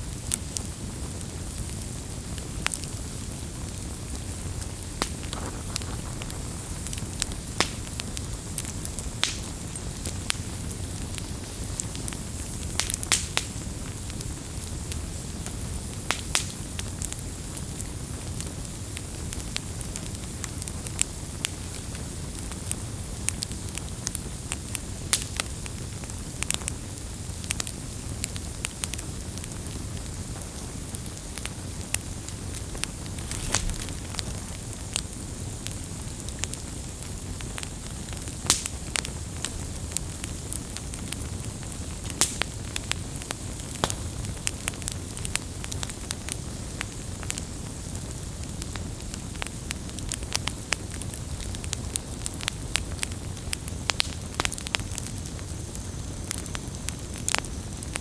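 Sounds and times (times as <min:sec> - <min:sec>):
campfire flame rushing: 0:00.0 - 0:58.0
fire crackling and popping: 0:00.0 - 0:58.0.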